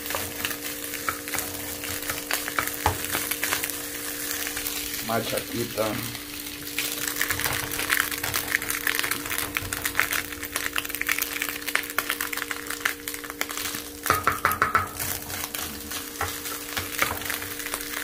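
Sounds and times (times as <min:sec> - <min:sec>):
food crackling in a frying pan: 0:00.0 - 0:18.0
steady hum: 0:00.0 - 0:18.0.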